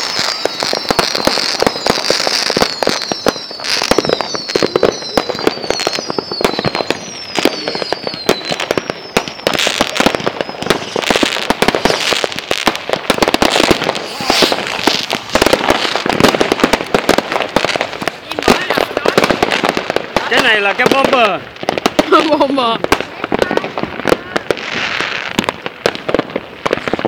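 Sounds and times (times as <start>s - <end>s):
fireworks crackling bangs: 0.0s - 27.0s
fireworks hissing bursts: 0.0s - 27.0s
fireworks whistles falling in pitch: 0.0s - 27.0s.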